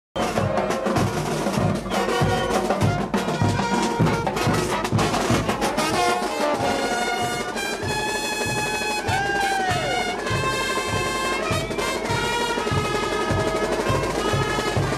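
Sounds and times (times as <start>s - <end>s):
bass drum beat: 0.2s - 14.9s
trumpets and trombones: 0.2s - 14.9s.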